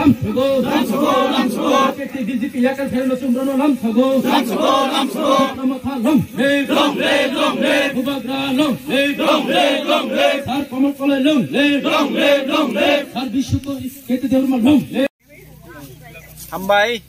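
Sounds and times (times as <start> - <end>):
people chanting slogans: 0.0 - 15.1.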